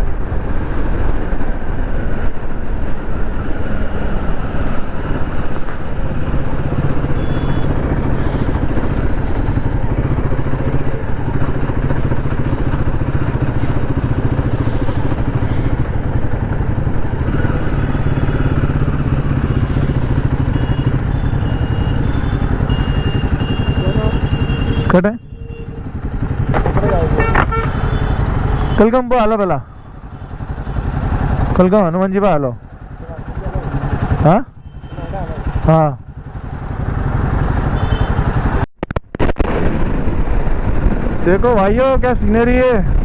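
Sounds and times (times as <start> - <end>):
motorcycle engine running: 0.0 - 43.0
road noise: 0.0 - 43.0.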